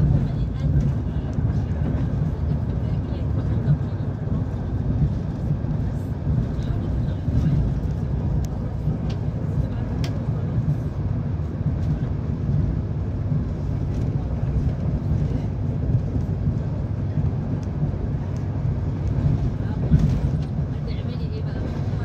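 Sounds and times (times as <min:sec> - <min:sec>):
train carriage rumble: 0:00.0 - 0:22.0.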